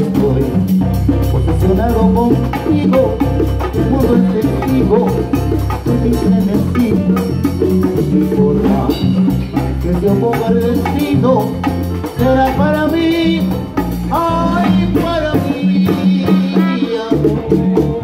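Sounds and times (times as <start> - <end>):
bass line: 0.0 - 18.0
percussion: 0.0 - 18.0
salsa band playing: 0.0 - 18.0
higher melodic line: 0.8 - 17.2.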